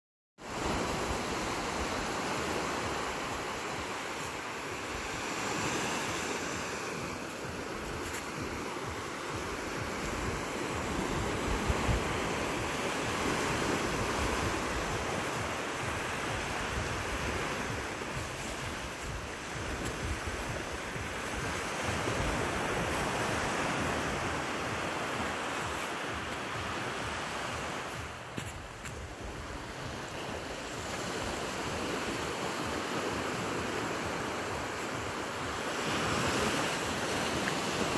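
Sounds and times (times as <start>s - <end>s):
ocean surf washing onto beach: 0.4s - 37.9s
wind rumbling on microphone: 0.5s - 37.9s.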